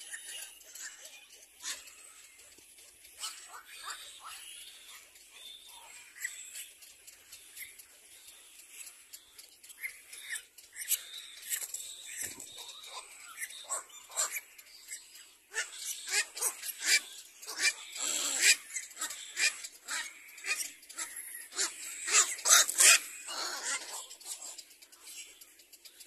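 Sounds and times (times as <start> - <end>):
cormorant chicks begging calls: 0.0 - 26.0.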